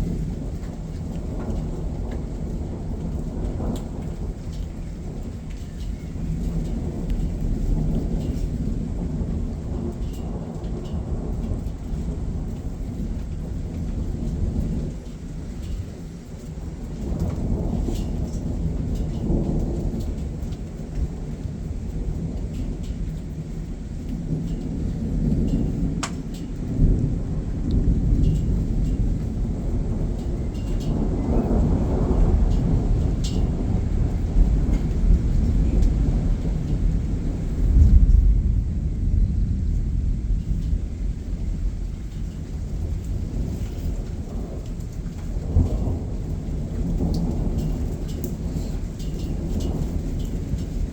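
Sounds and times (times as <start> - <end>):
rain: 0.0 - 50.9
thunder rumbling: 0.0 - 50.9.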